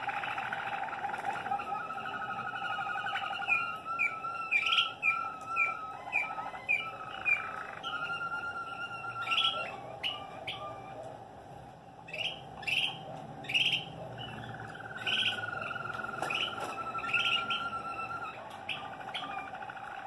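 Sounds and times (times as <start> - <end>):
canaries chirping: 0.0 - 20.0
low rolling canary trill: 0.0 - 20.0.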